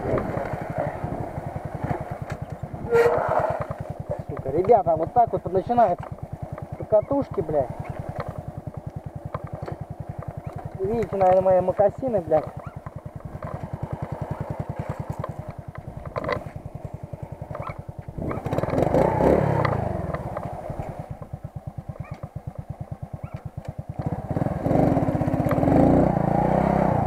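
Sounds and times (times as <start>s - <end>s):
small motorcycle engine idling and revving: 0.0s - 27.0s.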